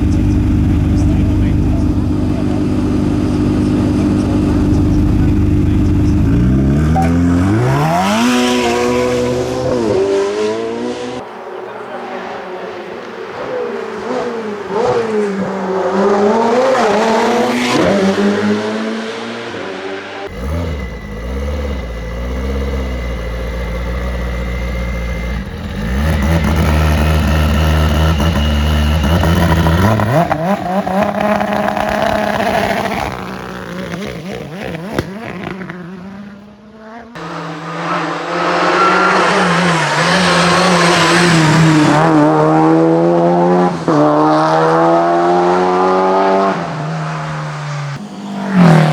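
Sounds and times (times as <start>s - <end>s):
racing car engines at full throttle: 0.0s - 48.9s.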